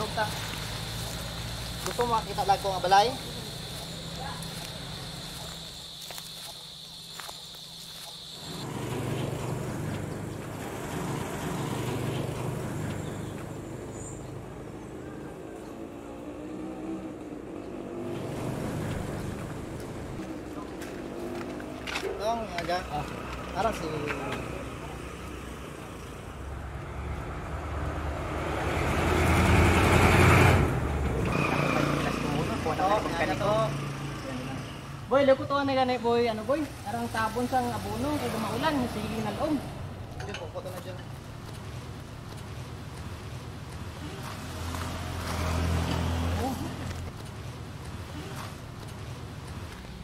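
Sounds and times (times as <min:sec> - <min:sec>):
vehicle engine approaching: 0:00.0 - 0:05.8, 0:08.4 - 0:50.0.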